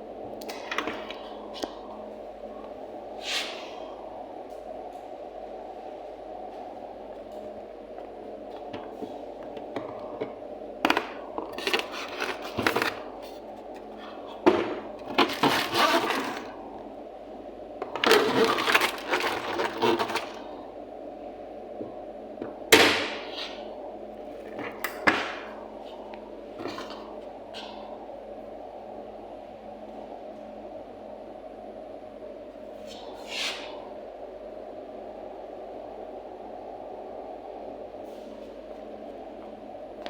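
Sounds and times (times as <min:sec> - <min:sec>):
steady background hum: 0:00.0 - 0:40.0.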